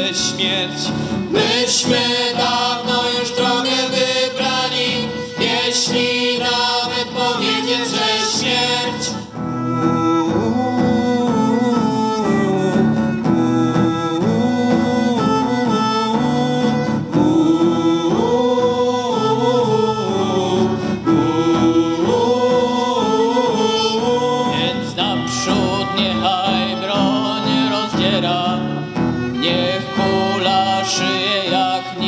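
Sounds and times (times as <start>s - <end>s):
acoustic guitar: 0.0s - 32.0s
violin melody: 0.0s - 32.0s.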